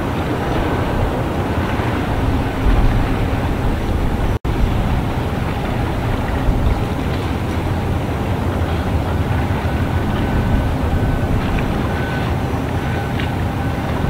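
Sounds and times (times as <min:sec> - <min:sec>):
outdoor noise: 0:00.0 - 0:14.0
wind buffeting microphone: 0:00.0 - 0:14.0.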